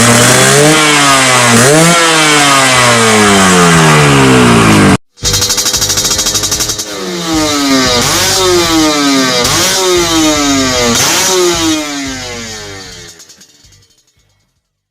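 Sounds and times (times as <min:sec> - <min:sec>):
two-stroke motorcycle engine revving: 0:00.0 - 0:14.4.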